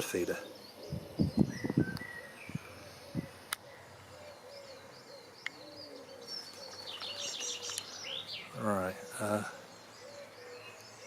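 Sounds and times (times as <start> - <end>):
small birds chirping: 0.0 - 11.0
pigeon cooing: 0.4 - 7.8, 8.6 - 10.8.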